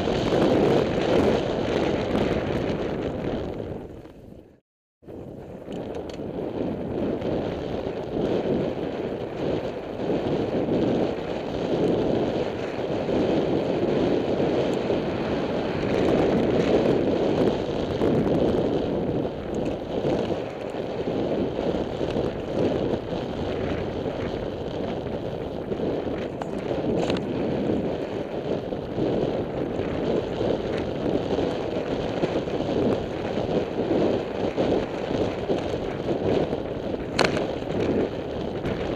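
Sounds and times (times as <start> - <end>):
bike tyres rolling on dirt: 0.0 - 38.9
wind buffeting microphone: 0.0 - 38.9.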